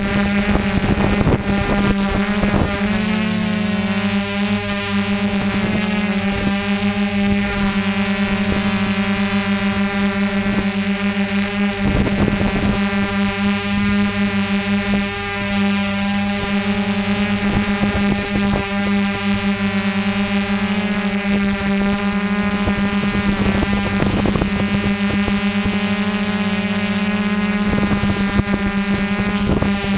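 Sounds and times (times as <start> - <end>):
drone propellers humming: 0.0 - 29.9.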